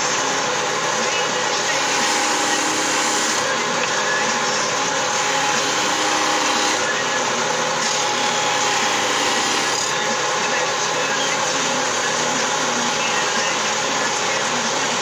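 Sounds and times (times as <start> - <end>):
circular saw cutting stone: 0.0 - 15.0.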